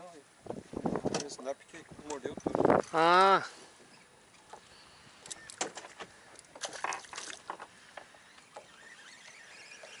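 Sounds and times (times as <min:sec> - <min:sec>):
water slapping boat hull: 0:00.0 - 0:10.0.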